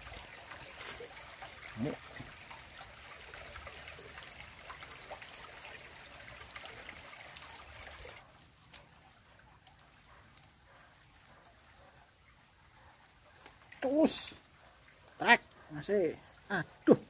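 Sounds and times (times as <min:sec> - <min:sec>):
stream trickling: 0:00.0 - 0:17.0.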